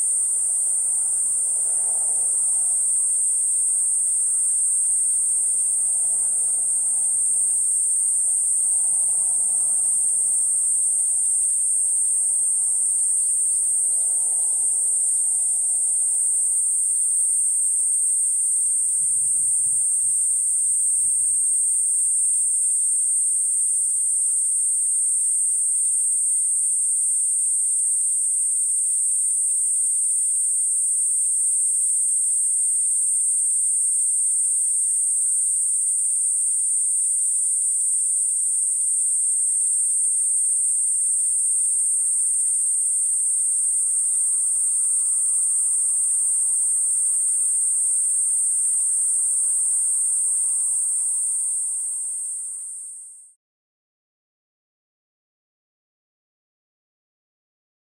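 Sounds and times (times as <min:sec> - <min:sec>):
cicada buzzing: 0:00.0 - 0:53.2.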